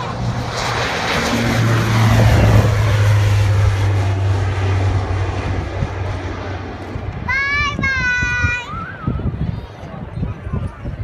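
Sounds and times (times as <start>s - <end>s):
propeller airplane taking off: 0.0s - 11.0s.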